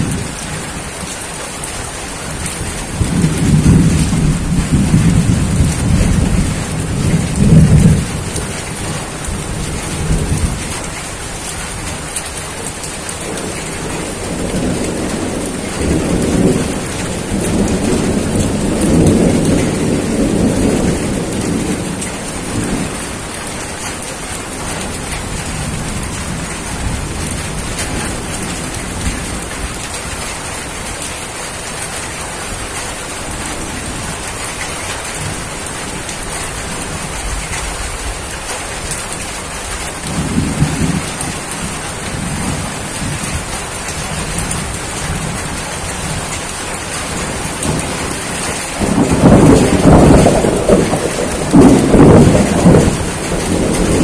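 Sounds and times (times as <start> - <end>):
thunder rumbling: 0.0 - 30.2, 32.4 - 54.0
heavy rain: 0.0 - 54.0.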